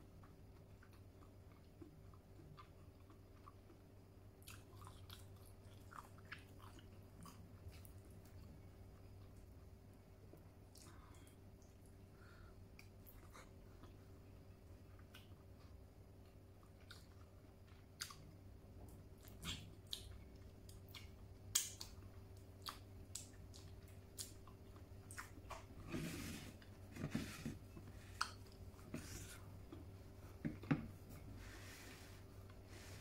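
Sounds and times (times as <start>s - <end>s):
person chewing food: 0.1s - 9.8s, 14.8s - 33.0s.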